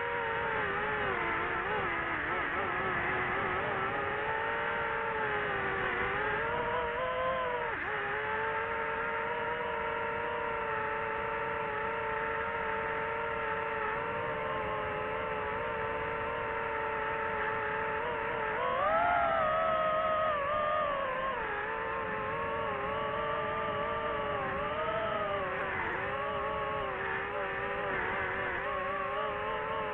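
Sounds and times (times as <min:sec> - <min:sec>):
drone propellers whining: 0:00.0 - 0:29.9.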